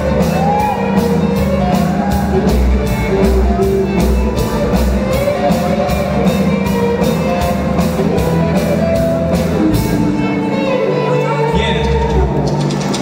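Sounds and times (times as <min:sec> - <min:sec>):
drum kit: 0:00.0 - 0:10.8, 0:11.5 - 0:13.0
bass guitar: 0:00.0 - 0:13.0
electric guitars: 0:00.0 - 0:13.0.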